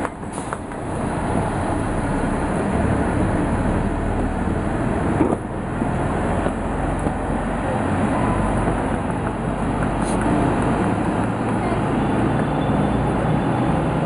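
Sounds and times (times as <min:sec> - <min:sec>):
engines and road traffic rumble: 0:00.0 - 0:14.0.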